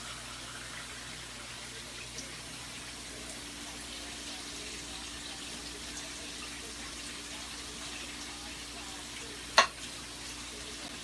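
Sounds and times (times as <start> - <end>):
rice pot sizzling: 0.0 - 11.0.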